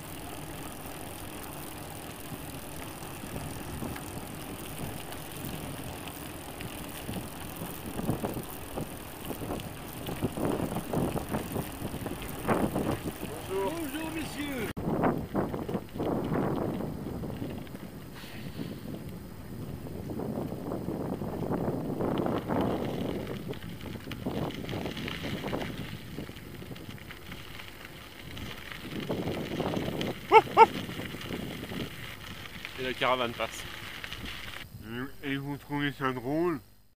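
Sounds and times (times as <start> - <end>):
bicycle knocks and rattles: 0.0 - 14.2, 14.8 - 30.2
tyre and wind noise: 0.0 - 34.8.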